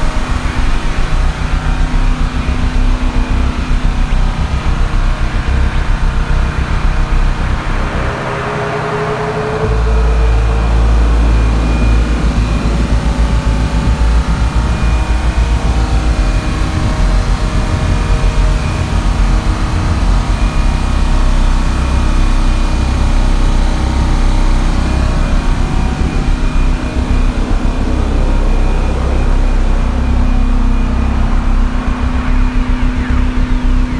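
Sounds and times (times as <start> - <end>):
generator engines rumbling: 0.0 - 33.9.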